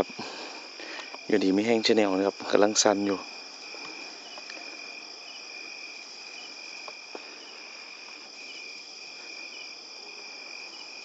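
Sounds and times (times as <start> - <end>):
crickets trilling: 0.0 - 11.0
insect chirping in double notes: 0.0 - 11.0.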